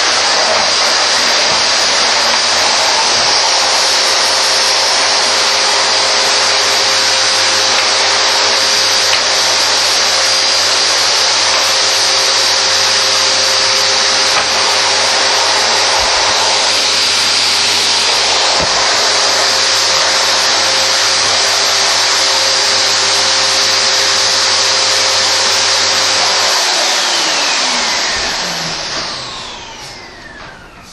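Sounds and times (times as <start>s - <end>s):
motor winding down whine: 0.0s - 30.9s
vacuum cleaner motor running: 0.0s - 30.9s.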